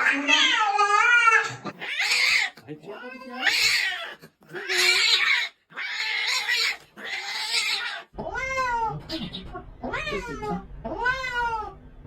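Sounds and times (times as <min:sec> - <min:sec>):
cat crying harshly: 0:00.0 - 0:09.0, 0:09.8 - 0:11.8.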